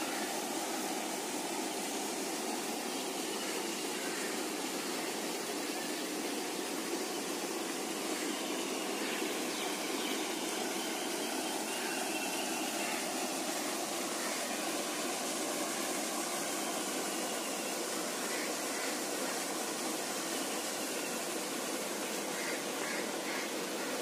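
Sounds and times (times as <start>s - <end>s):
faint high wavering sounds: 0.0s - 24.0s.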